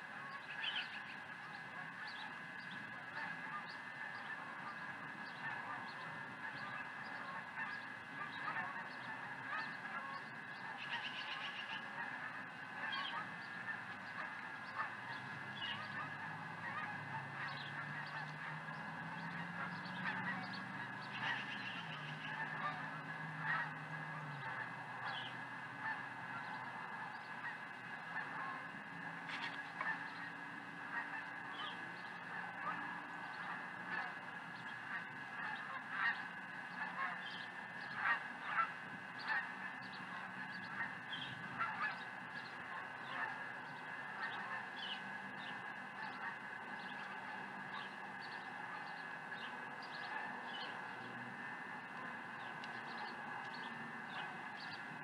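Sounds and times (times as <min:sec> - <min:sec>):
geese honking: 0:00.0 - 0:55.0
low drone: 0:00.0 - 0:55.0.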